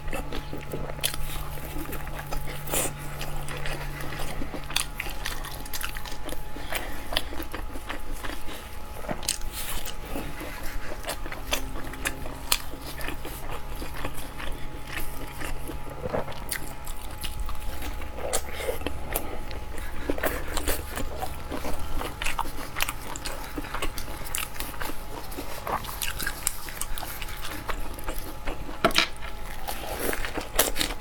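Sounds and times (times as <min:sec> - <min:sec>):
faint steady hum: 0:00.0 - 0:31.0
person biting and chewing food: 0:00.0 - 0:31.0.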